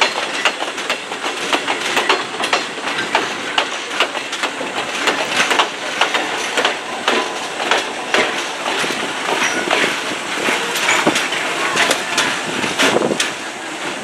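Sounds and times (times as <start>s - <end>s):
train rumble: 0.0s - 14.0s
train wheels clacking over rail joints: 0.0s - 14.0s.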